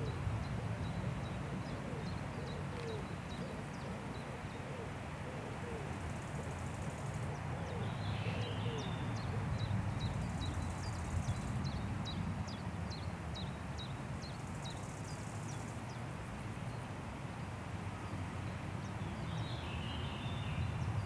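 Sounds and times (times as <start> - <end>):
wind through trees: 0.0 - 21.0.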